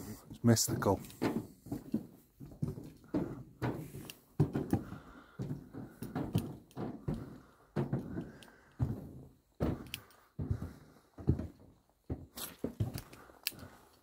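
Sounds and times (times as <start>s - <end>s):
footsteps on a path: 0.0s - 14.0s.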